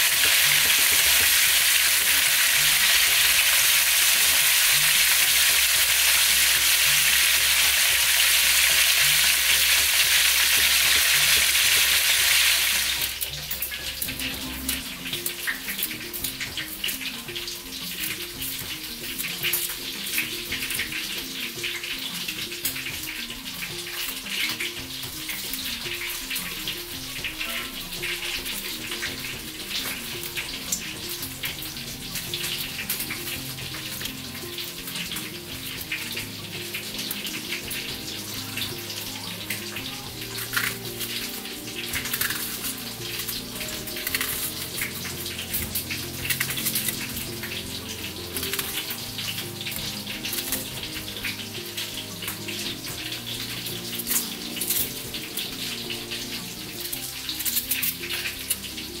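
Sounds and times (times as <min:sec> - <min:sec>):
background music: 0:00.0 - 0:59.0.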